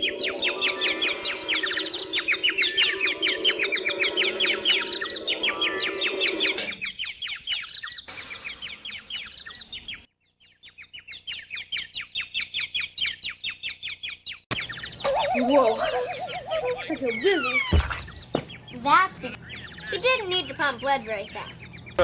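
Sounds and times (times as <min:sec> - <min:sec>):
cartoon birds chirping: 0:00.0 - 0:22.0.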